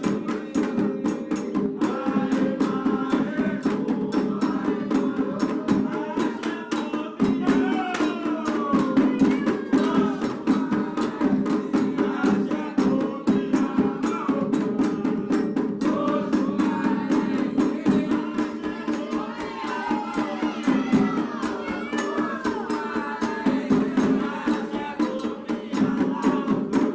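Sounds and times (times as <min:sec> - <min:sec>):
hand drums and percussion: 0:00.0 - 0:26.9
voices singing: 0:00.0 - 0:26.9.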